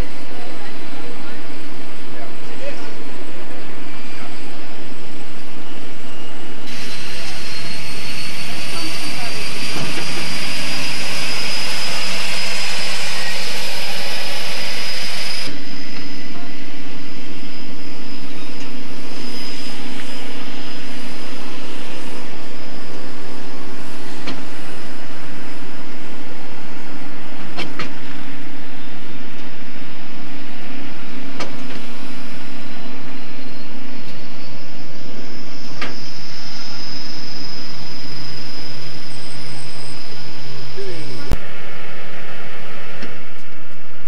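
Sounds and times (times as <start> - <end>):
engines humming and whining: 0.0 - 44.0.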